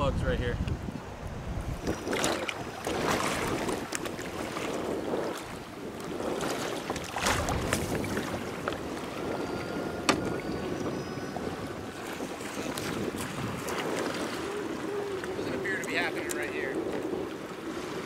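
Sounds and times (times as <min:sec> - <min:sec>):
wind: 0:00.0 - 0:18.0
water lapping against kayak hull: 0:00.6 - 0:18.0.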